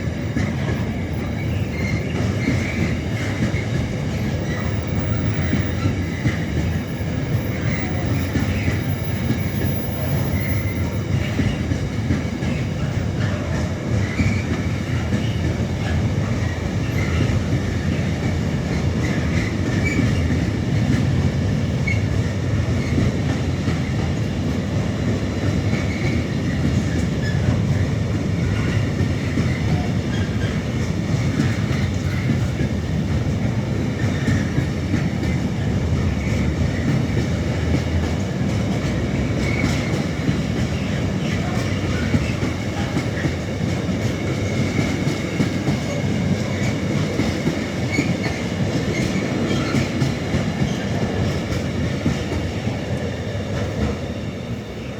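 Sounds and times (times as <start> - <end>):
train wheels clattering on rails: 0.0 - 54.9
train wheels squealing: 0.0 - 54.9.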